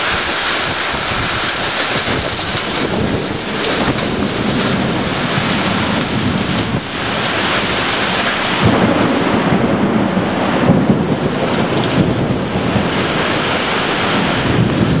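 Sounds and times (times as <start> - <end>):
heavy rain: 0.0 - 15.0
thunder rumble: 0.0 - 15.0
wind buffeting microphone: 0.0 - 15.0.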